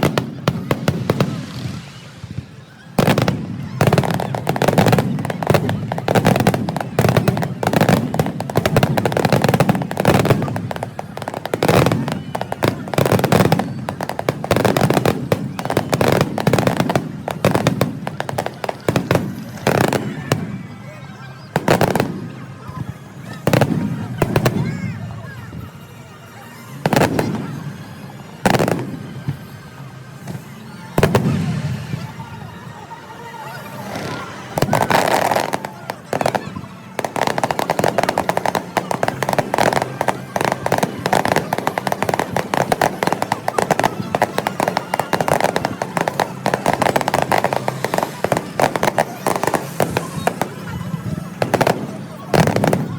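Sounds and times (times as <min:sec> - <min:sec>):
crowd murmur: 0:00.0 - 0:52.9
fireworks crackling and banging: 0:00.0 - 0:52.9.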